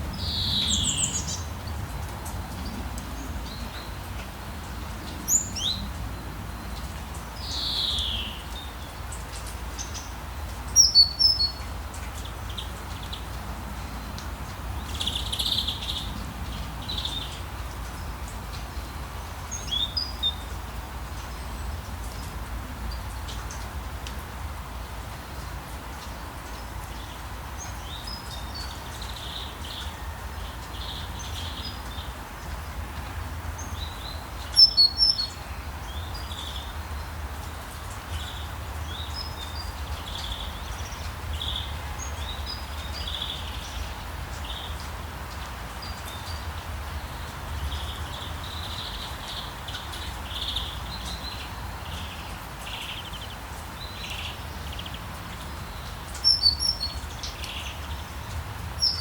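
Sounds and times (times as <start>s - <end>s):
small birds chirping: 0.1s - 23.8s, 25.4s - 59.0s.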